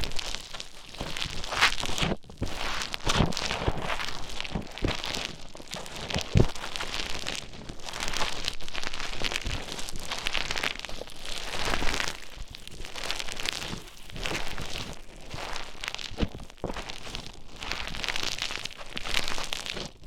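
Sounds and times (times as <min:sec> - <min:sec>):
bead foam squished crackling: 0:00.0 - 0:20.0.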